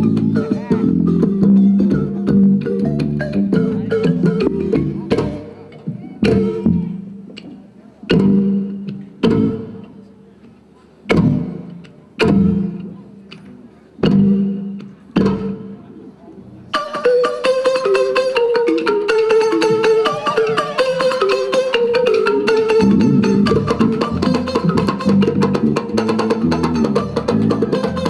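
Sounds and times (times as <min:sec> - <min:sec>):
live band playing: 0:00.0 - 0:07.4, 0:08.0 - 0:10.1, 0:11.1 - 0:13.4, 0:16.7 - 0:28.0.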